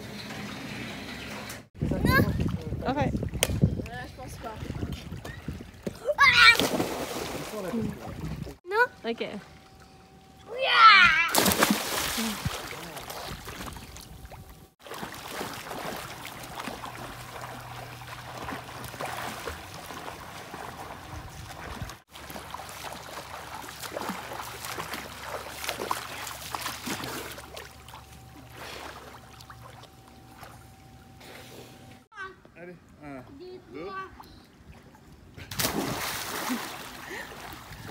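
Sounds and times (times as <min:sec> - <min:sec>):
water splashing and sloshing: 0:00.0 - 0:32.1, 0:33.8 - 0:37.9
low steady hum: 0:06.6 - 0:37.9.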